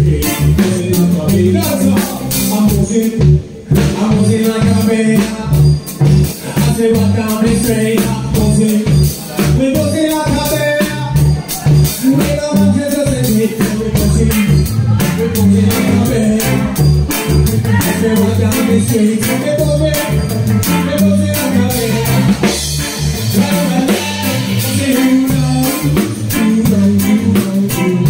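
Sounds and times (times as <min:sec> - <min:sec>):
bass guitar: 0:00.0 - 0:28.0
drums: 0:00.0 - 0:28.0
electric keyboard: 0:00.0 - 0:28.0.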